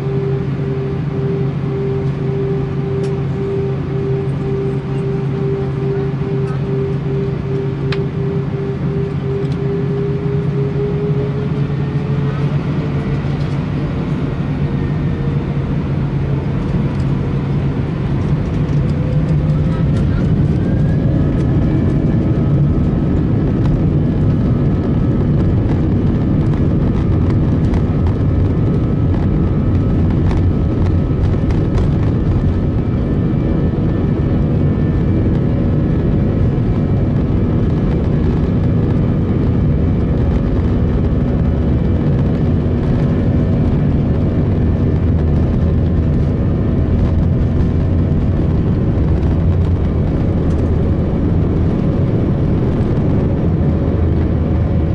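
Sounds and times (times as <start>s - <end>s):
engine whining tones: 0.0s - 54.9s
jet engines roaring: 0.0s - 54.9s
wheels rumbling on runway: 0.0s - 54.9s.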